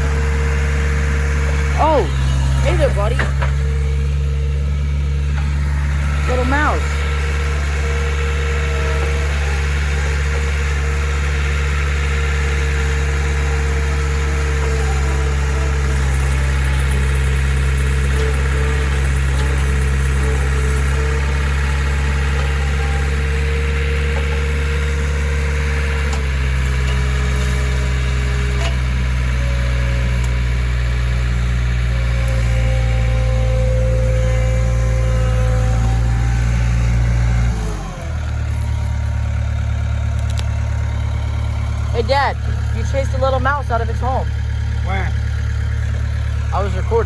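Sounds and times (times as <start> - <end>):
skid steer engine running: 0.0 - 47.0.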